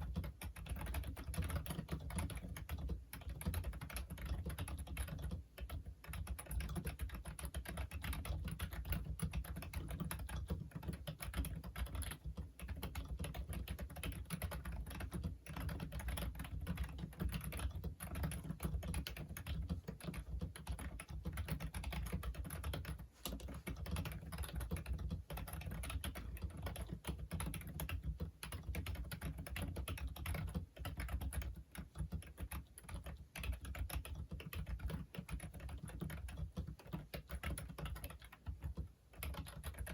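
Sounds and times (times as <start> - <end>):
keyboard typing clicks: 0.0 - 39.9.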